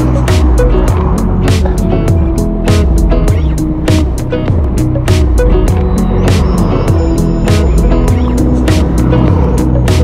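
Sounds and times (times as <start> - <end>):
deep sliding bass notes: 0.0 - 10.0
music with drum beat: 0.0 - 10.0.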